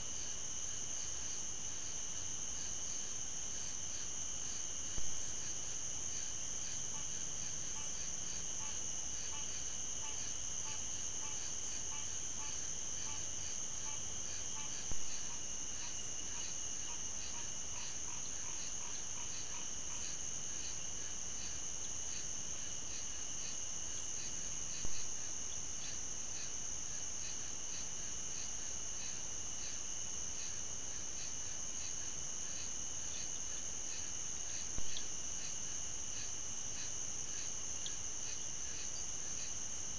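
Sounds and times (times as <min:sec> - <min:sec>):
insects trilling: 0:00.0 - 0:39.9
ticking insect chirp: 0:00.0 - 0:39.9.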